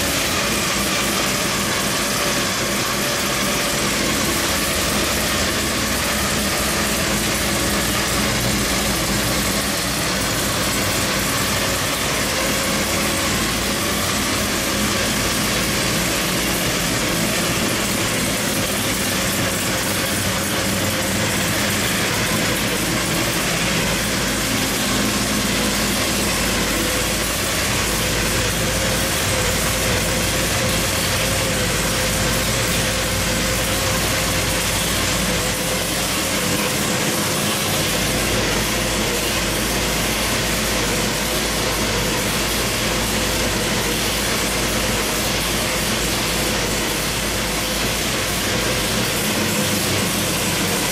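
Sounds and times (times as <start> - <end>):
supercharged engine running loud: 0.0 - 50.9.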